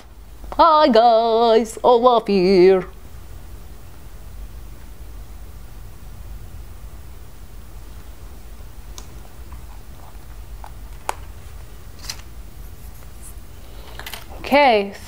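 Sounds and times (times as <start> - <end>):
low hum: 0.0 - 14.5.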